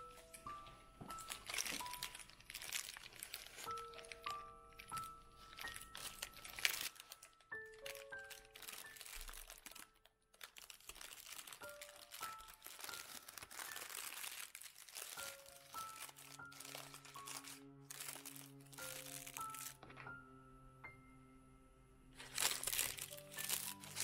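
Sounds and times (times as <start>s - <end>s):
soft background music: 0.0s - 24.0s
parchment paper crinkling: 0.2s - 20.1s, 22.2s - 24.0s.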